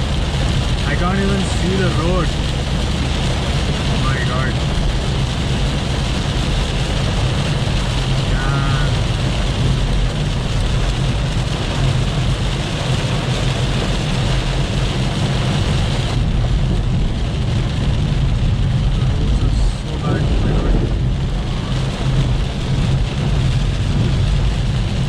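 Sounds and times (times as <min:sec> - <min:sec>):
low engine drone: 0:00.0 - 0:25.0
rain and wet road noise: 0:00.0 - 0:25.0.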